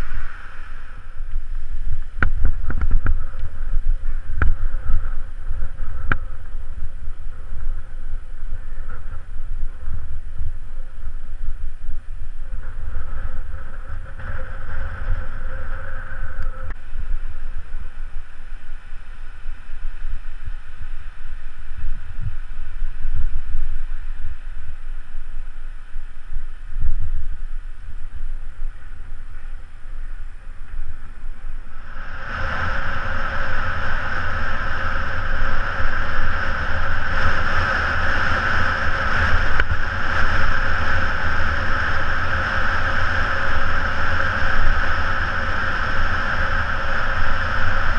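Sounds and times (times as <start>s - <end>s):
rushing hiss: 0.0s - 47.9s
wind buffeting microphone: 0.0s - 47.9s.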